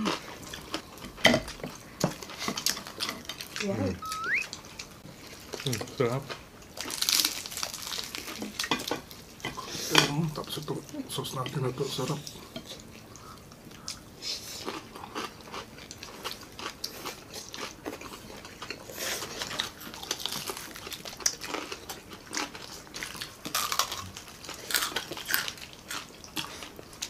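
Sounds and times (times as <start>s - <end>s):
people chewing crispy pork skin: 0.0s - 27.0s.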